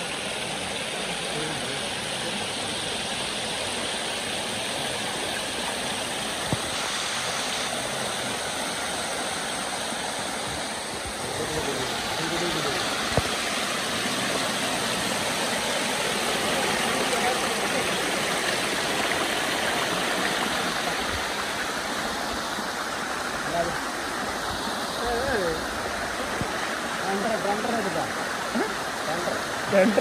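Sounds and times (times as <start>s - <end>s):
water rushing over weir: 0.0s - 30.0s.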